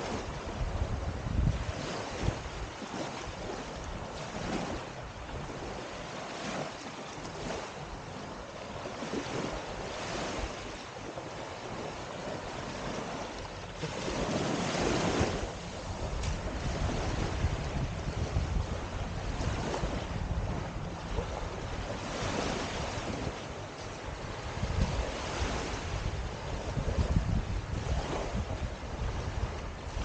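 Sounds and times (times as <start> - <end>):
waves lapping on sandy shore: 0.0 - 30.0
wind rumbling on microphone: 0.0 - 30.0.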